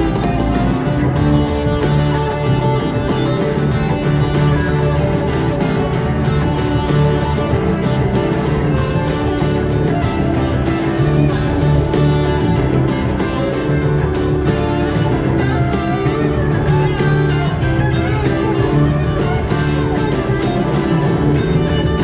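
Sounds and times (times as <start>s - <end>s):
guitars playing: 0.0s - 22.0s
live band playing: 0.0s - 22.0s
steady bass line: 0.0s - 22.0s.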